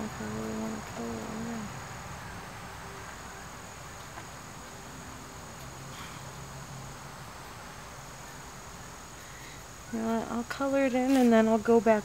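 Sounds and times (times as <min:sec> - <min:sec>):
faint low hum: 0:00.0 - 0:12.0
insects chirring: 0:00.0 - 0:12.0.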